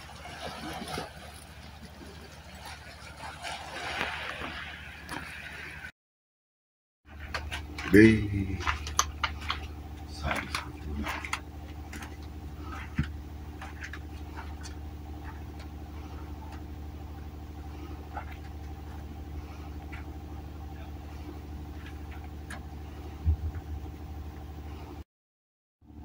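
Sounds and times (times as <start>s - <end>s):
engine running with low hum: 0.0s - 5.9s, 7.0s - 25.0s.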